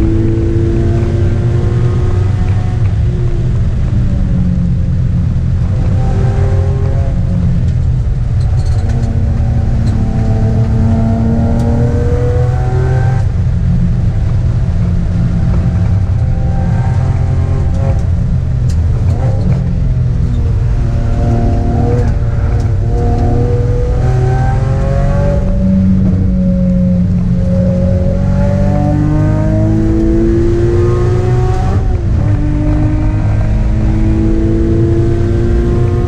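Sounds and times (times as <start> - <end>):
sports car engine accelerating: 0.0 - 36.0.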